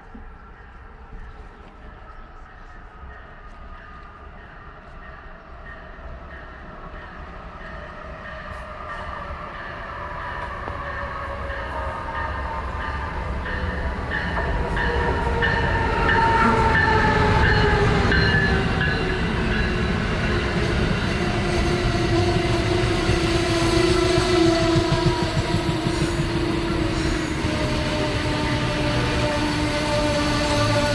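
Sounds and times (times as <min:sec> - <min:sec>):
train running past: 0:00.0 - 0:30.9.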